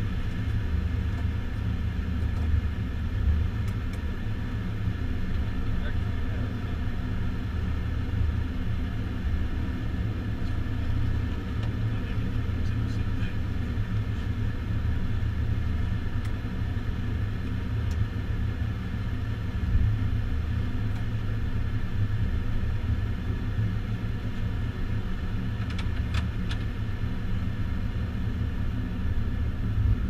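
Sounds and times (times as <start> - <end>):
aircraft cabin rumble: 0.0 - 30.0.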